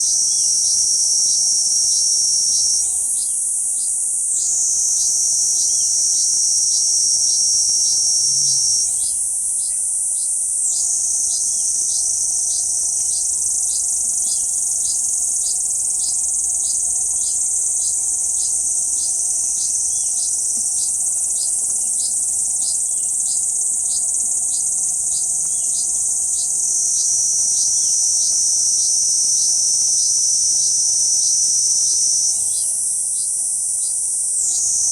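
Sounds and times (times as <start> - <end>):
cicada buzzing: 0.0 - 34.9.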